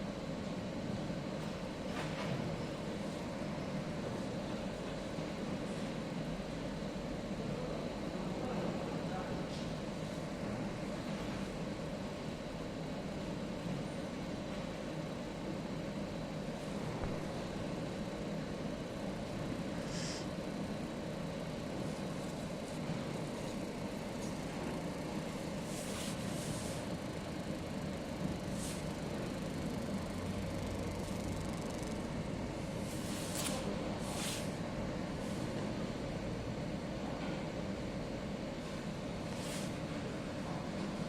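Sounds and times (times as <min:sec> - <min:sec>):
laser marking machine humming: 0:00.0 - 0:41.0.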